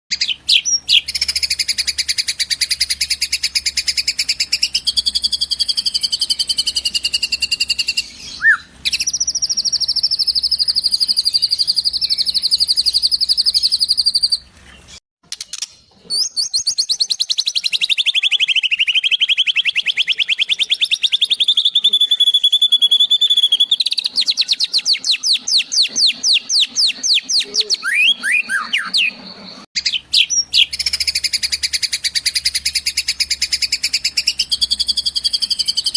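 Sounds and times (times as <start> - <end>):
bird trilling: 0.1 - 14.5, 16.2 - 35.9.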